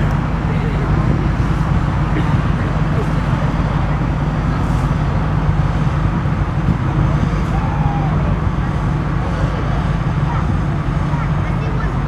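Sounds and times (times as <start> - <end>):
low rumble of outdoor background: 0.0 - 12.0.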